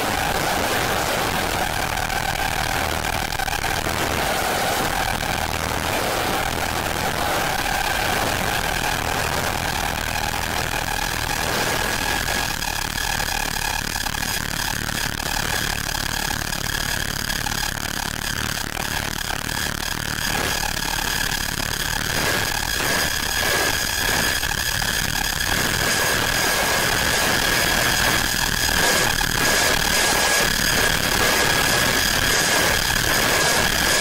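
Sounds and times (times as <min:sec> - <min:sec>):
electronic drone: 0:00.0 - 0:34.0.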